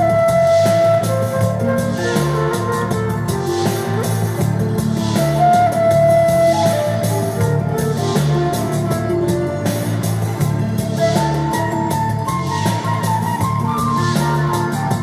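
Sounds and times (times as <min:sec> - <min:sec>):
guitar: 0:00.0 - 0:15.0
music with steady beat: 0:00.0 - 0:15.0
repeating bass line: 0:01.4 - 0:06.6, 0:07.4 - 0:15.0.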